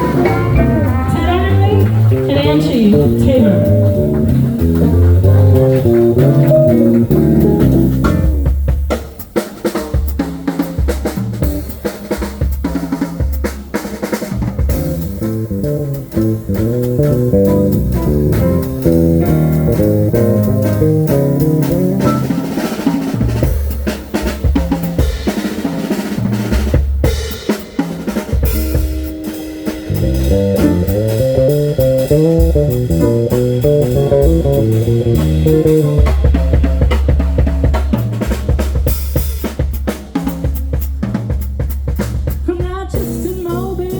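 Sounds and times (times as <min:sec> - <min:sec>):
drum kit beat: 0:00.0 - 0:43.9
live band playing: 0:00.0 - 0:43.9.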